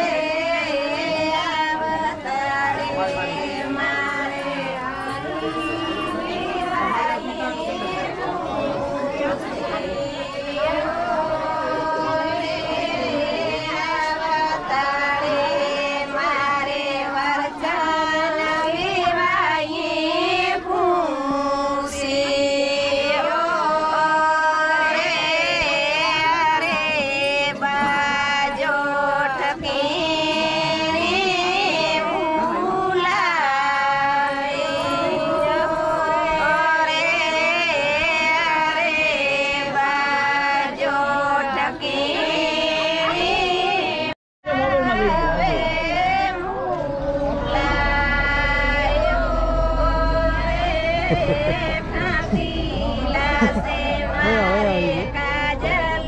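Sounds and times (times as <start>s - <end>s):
group of women singing: 0.0s - 56.0s.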